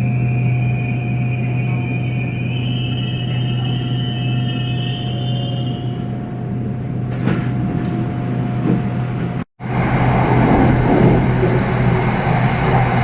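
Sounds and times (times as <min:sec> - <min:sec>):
train running hum: 0:00.0 - 0:13.0.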